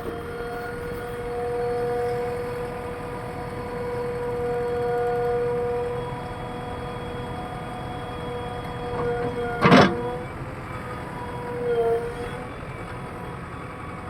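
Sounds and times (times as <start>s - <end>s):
heavy machine whining: 0.0s - 14.0s.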